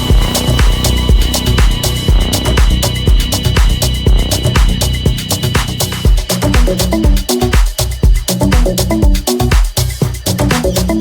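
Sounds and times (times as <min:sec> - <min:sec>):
heavy kick drum: 0:00.0 - 0:11.0
hi-hat ticks: 0:00.0 - 0:11.0
stepping bass line: 0:00.0 - 0:11.0.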